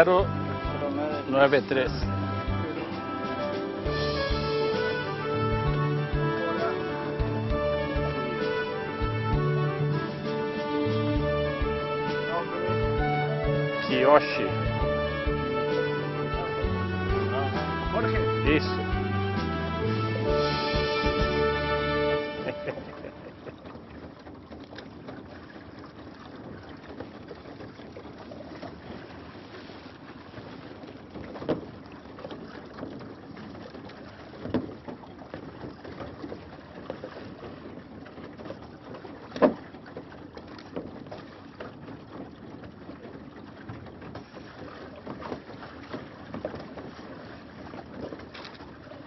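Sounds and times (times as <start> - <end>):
wind and water rushing: 0.0 - 49.0.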